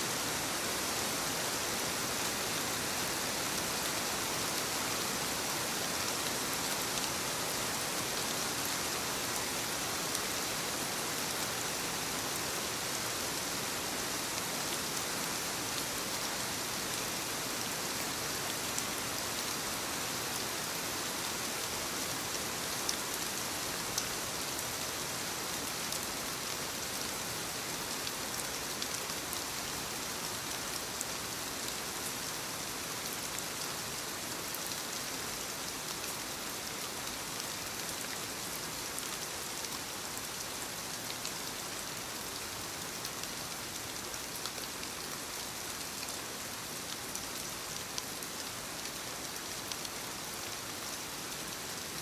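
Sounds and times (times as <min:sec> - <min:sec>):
rain falling on leaves: 0:00.0 - 0:52.0.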